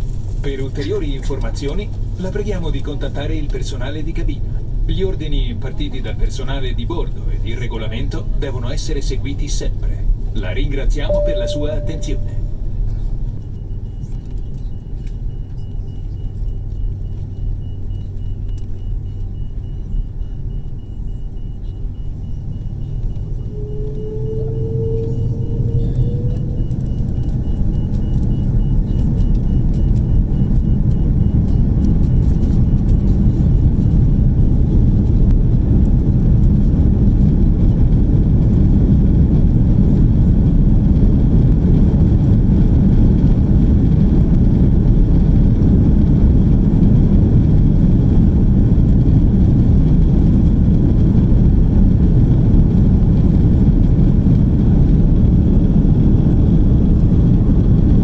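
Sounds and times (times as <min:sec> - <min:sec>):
jet engines at takeoff power: 0:00.0 - 0:11.3, 0:11.9 - 0:58.0.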